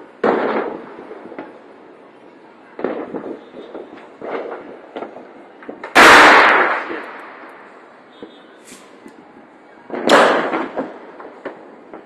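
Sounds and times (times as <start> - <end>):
fireworks bangs: 0.0 - 12.0
faint firework pops: 0.2 - 1.6, 2.8 - 9.2, 9.9 - 12.0.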